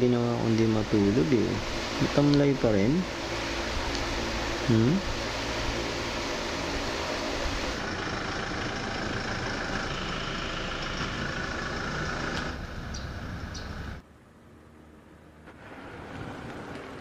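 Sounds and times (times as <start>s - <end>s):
vehicle driving by: 0.9s - 17.0s.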